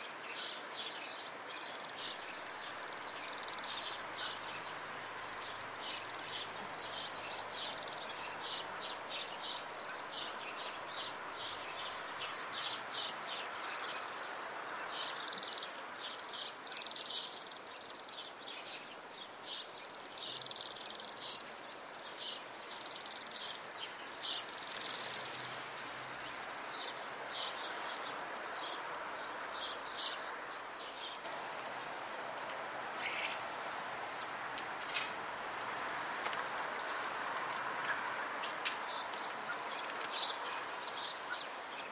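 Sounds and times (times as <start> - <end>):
birds trilling calls: 0.0 - 31.3, 32.6 - 41.9
steady background noise: 0.0 - 41.9.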